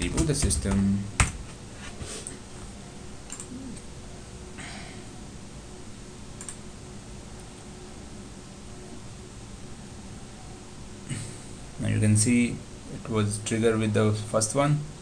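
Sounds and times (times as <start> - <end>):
faint hiss and hum: 0.0 - 15.0.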